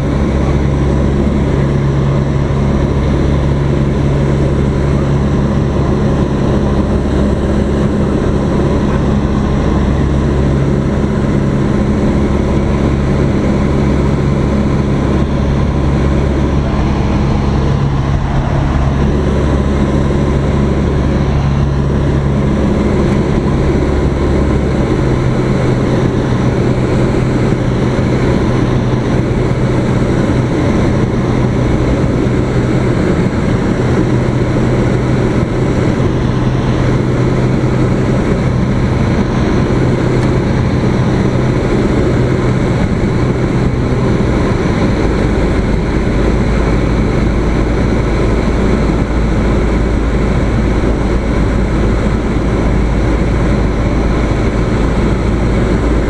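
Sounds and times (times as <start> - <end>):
light airplane engine and propeller: 0.0 - 56.0
rush of air: 5.1 - 56.0.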